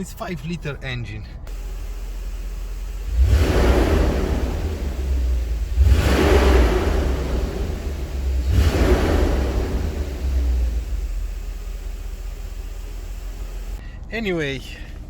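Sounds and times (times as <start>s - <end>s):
car engine revving: 1.5s - 13.8s.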